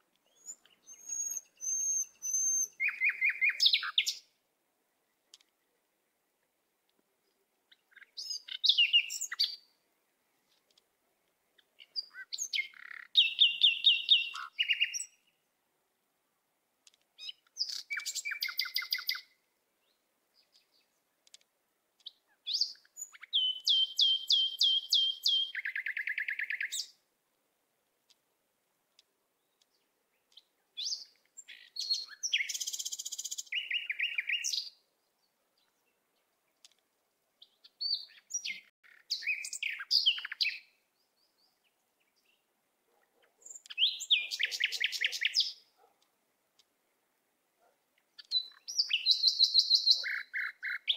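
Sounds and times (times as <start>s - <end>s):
songbird chirps and trills: 0.0s - 50.9s.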